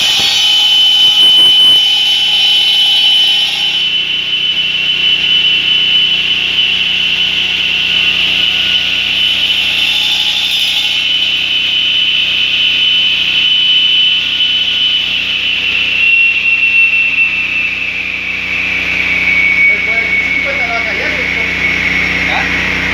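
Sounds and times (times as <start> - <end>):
saw high-pitched whine: 0.0 - 22.9.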